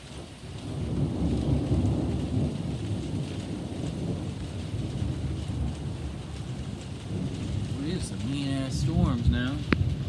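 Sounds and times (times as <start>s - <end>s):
rolling thunder rumble: 0.0s - 10.0s
steady rain: 0.0s - 10.0s.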